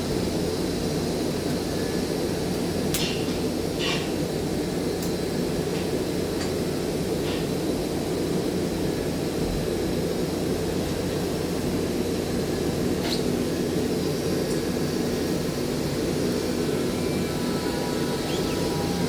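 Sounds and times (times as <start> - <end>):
faint hum: 0.0 - 19.0
workshop machinery roar: 0.0 - 19.0.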